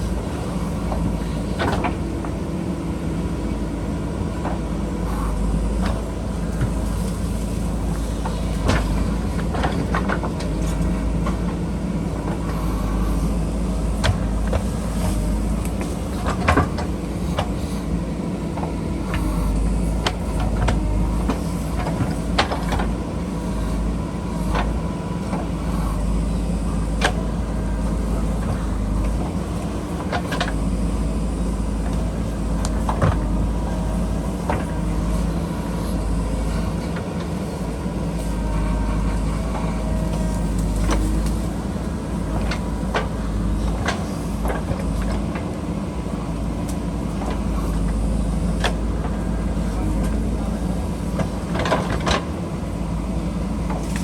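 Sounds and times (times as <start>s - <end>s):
backhoe diesel engine under load: 0.0s - 54.0s.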